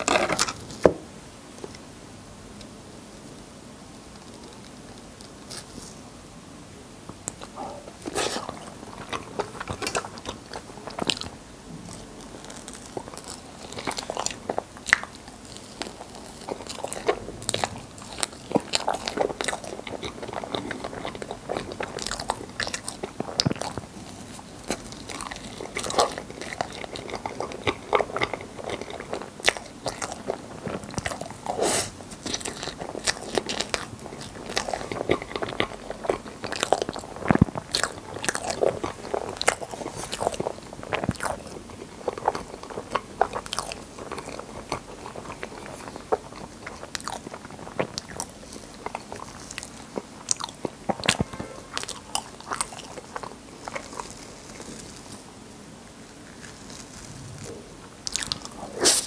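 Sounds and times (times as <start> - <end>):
close chewing mouth sounds: 7.2 - 59.0.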